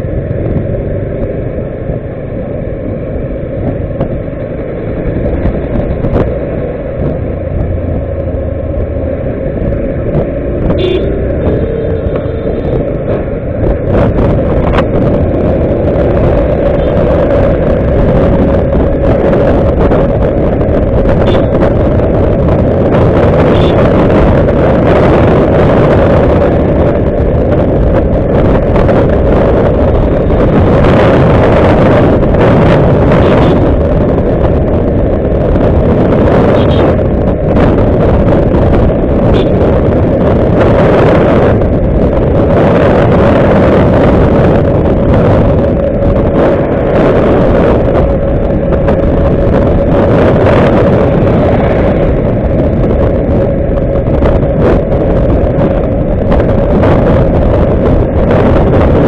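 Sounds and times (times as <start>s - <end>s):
motorcycle engine: 0.0s - 59.0s
road and wind rush: 0.0s - 59.0s.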